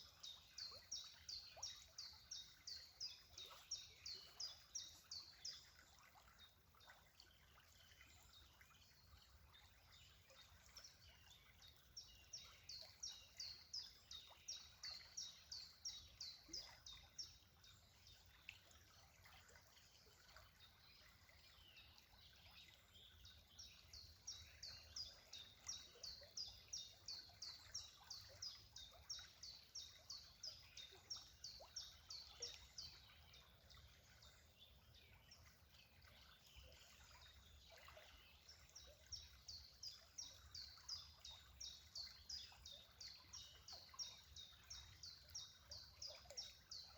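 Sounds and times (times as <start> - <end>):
faint outdoor hiss: 0.0 - 46.9.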